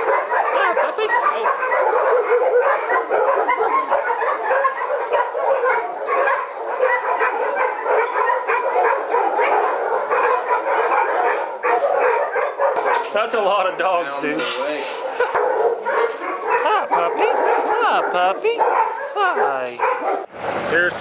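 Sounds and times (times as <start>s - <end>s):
many dogs barking: 0.0s - 20.3s.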